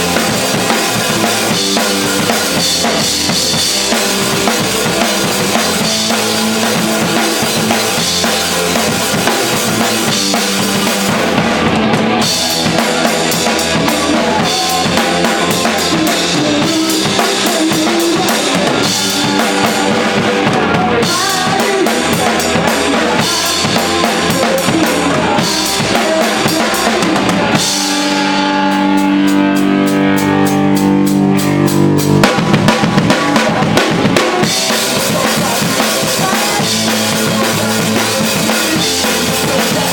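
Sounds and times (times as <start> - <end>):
drum kit playing: 0.0 - 39.9
rock band playing live: 0.0 - 39.9.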